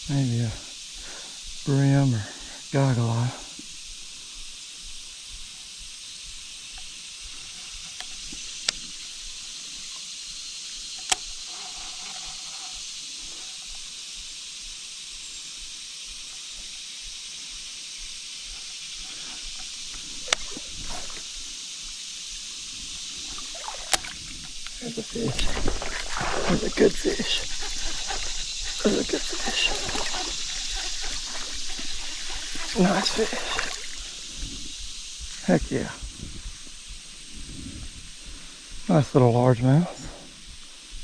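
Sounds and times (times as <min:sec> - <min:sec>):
high-pitched creek hiss: 0:00.0 - 0:41.0.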